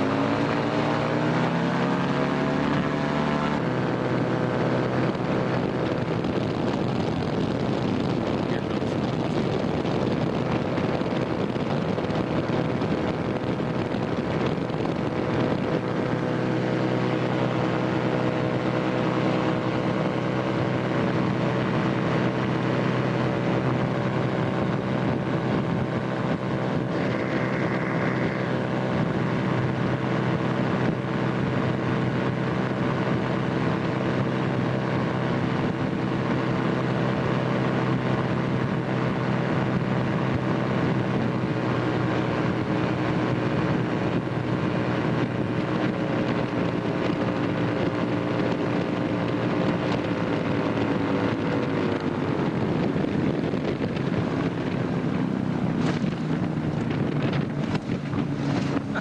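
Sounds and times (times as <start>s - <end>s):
aircraft engine and propeller: 0.0s - 59.0s.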